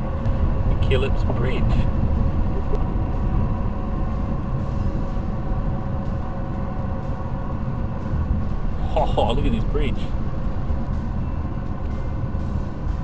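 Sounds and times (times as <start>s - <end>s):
faint steady hum: 0.0s - 13.0s
tyres and engine rumbling: 0.0s - 13.0s.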